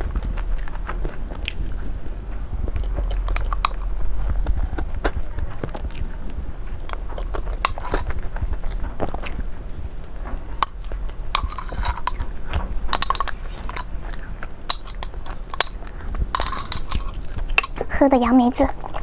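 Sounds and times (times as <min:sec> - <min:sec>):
person chewing crunchy food: 0:00.0 - 0:17.9.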